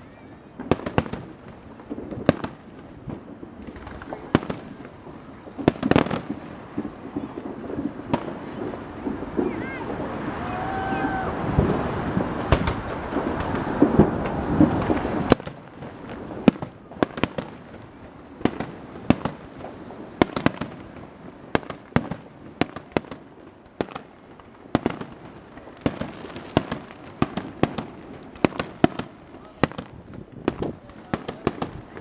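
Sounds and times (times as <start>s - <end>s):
fireworks bangs and cracks: 0.0s - 32.0s.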